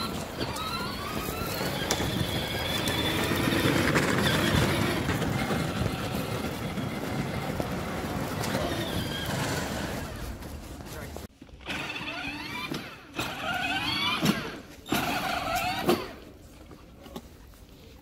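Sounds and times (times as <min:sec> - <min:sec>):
plastic wheels rumbling on pavers: 0:00.0 - 0:17.6.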